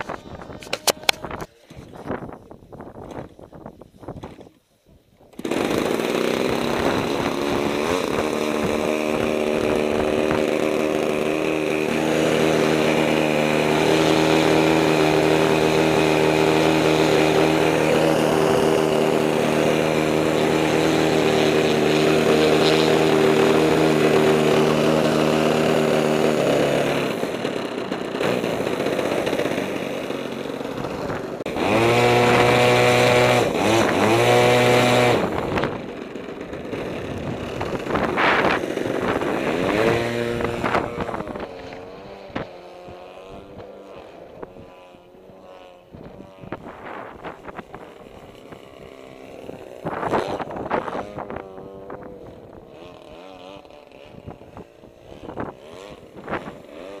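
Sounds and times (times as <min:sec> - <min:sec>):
model airplane motor and propeller: 0:00.0 - 0:57.0.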